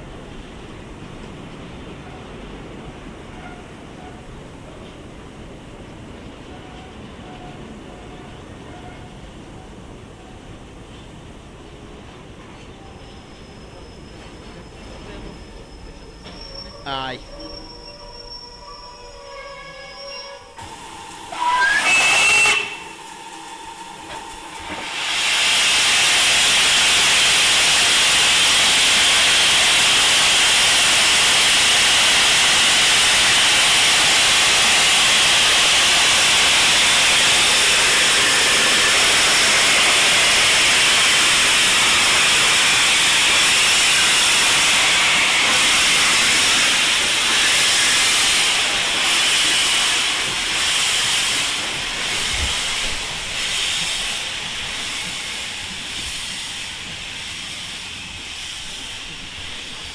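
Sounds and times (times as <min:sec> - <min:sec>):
steam locomotive hissing steam: 0:01.7 - 0:59.9.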